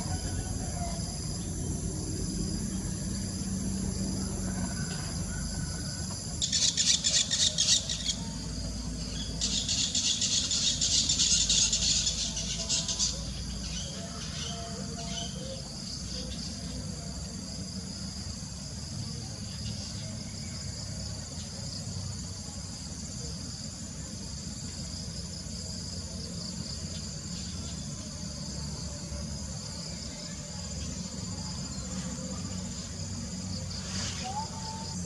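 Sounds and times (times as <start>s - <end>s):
insects chirring: 0.0s - 35.0s
low steady rumble: 0.0s - 35.0s.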